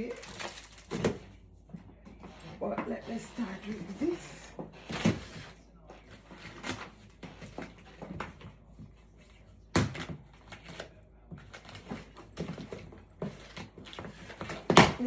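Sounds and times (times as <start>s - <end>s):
gift box rustling: 0.0s - 15.0s.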